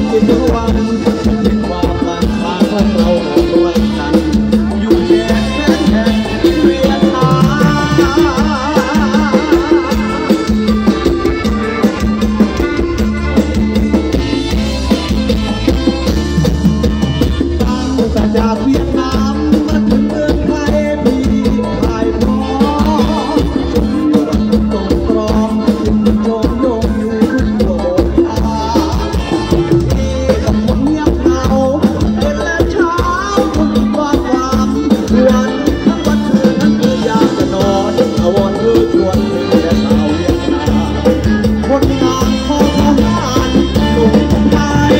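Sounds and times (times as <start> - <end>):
keyboard: 0.0 - 44.9
live band through pa: 0.0 - 44.9
man singing into a microphone: 0.0 - 44.9
steady drum beat: 0.0 - 44.9.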